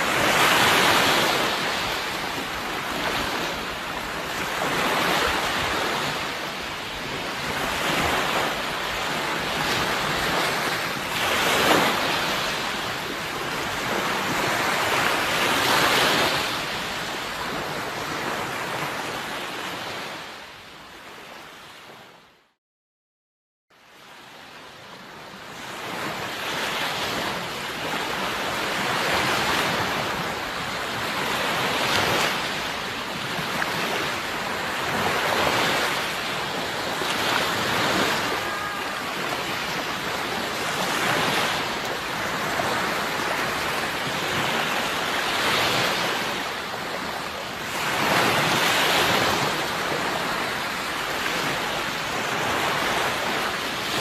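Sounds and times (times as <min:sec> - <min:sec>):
sea waves breaking: 0:00.0 - 0:22.2, 0:23.9 - 0:54.0.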